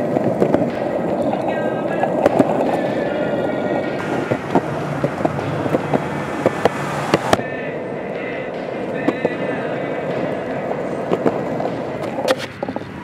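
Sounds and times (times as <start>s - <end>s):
wheels clicking over cracks: 0.0s - 7.4s, 8.2s - 13.0s
skateboard wheels rolling: 0.0s - 13.0s.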